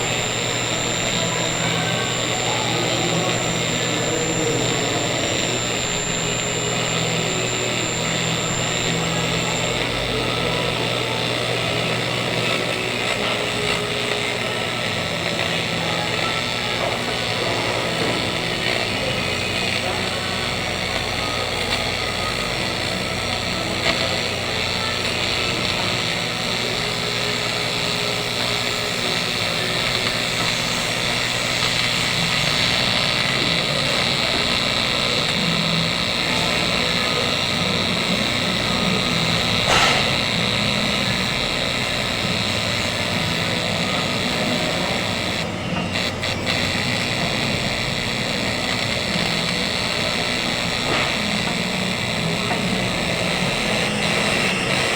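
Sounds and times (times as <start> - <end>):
welding arc buzzing hiss: 0.0 - 54.9.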